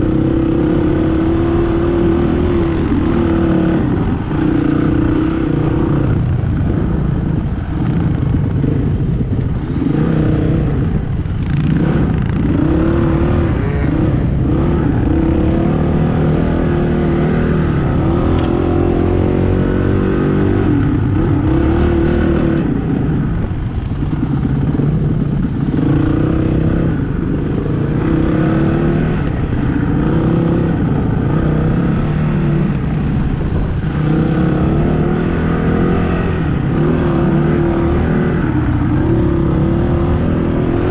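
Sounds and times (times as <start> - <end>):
dirt bike engine revving: 0.0 - 8.8, 9.5 - 22.8, 24.1 - 40.9.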